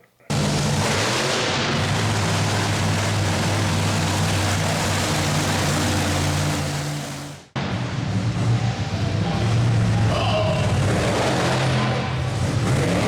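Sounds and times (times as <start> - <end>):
monster truck engine running: 0.3 - 13.0.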